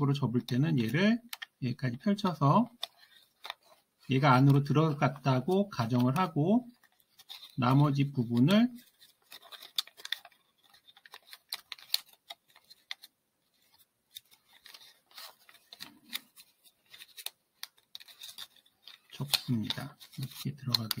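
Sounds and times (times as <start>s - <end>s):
paper crackling and rustling: 0.3s - 1.6s, 2.6s - 21.0s.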